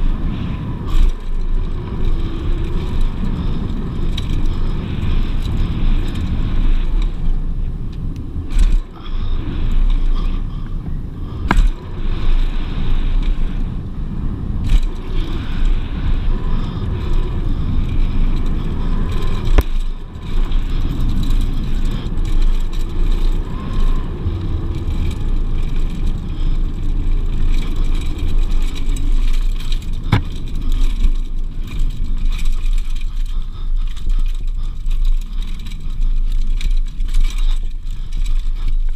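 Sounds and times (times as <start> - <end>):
bike rattling over bumps: 0.0 - 38.9
tyre and trail rumble: 0.0 - 38.9
wind on microphone: 0.0 - 38.9.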